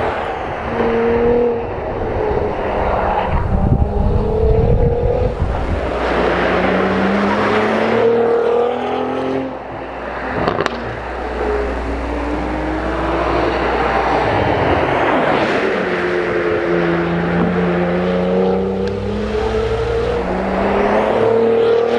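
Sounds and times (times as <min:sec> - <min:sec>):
car engine accelerating hard: 0:00.0 - 0:21.9.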